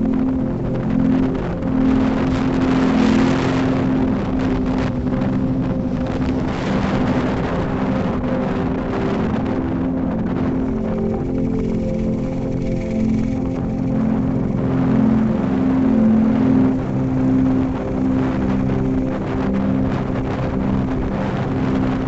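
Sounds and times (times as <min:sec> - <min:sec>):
steady low drone: 0:00.0 - 0:22.0
wind on microphone: 0:00.0 - 0:22.0.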